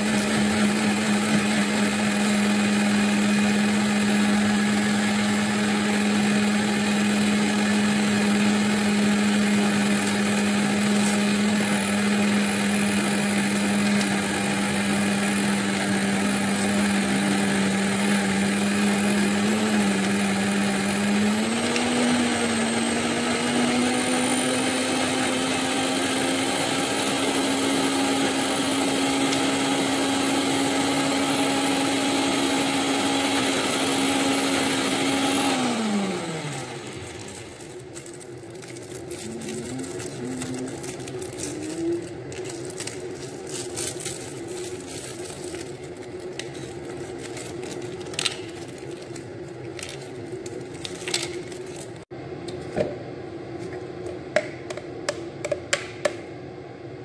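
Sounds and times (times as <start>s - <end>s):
blender motor whirring: 0.0s - 52.1s.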